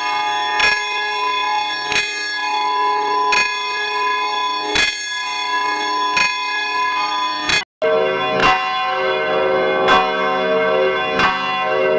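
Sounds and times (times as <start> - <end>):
church bell tolling: 0.0 - 11.9.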